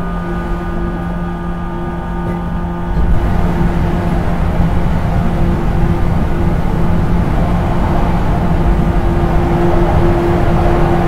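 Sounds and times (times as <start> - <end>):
traction motor droning hum: 0.0 - 11.0
train rumbling through tunnel: 0.0 - 11.0.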